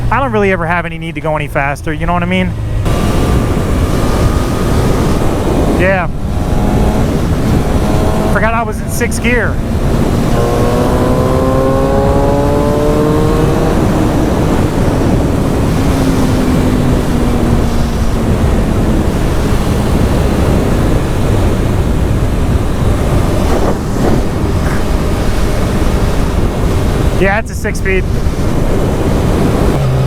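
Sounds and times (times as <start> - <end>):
wind buffeting microphone: 0.0 - 30.0
motorcycle engine accelerating: 2.2 - 30.0.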